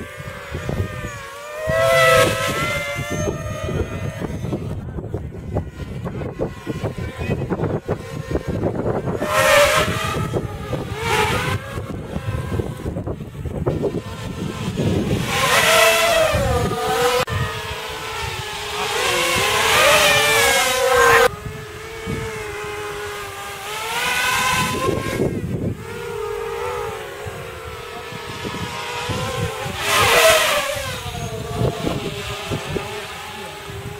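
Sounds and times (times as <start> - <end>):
racing drones whining: 0.0 - 33.9.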